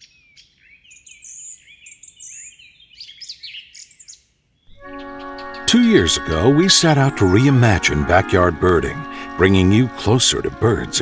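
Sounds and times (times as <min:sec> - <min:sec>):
songbird chirping and singing: 0:00.0 - 0:11.0.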